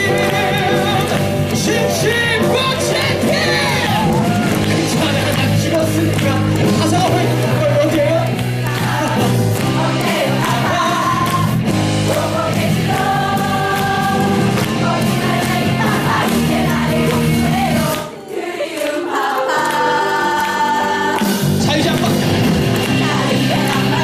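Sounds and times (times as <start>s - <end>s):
men singing in harmony: 0.0s - 7.8s, 8.6s - 21.2s, 22.8s - 24.0s
band accompaniment: 0.0s - 24.0s.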